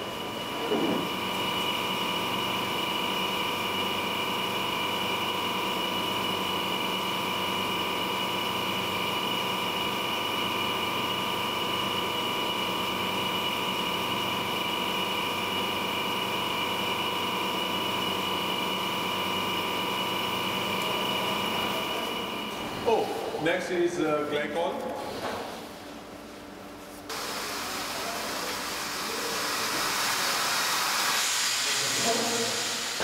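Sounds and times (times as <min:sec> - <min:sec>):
machine hum with high whine: 0:00.0 - 0:33.0.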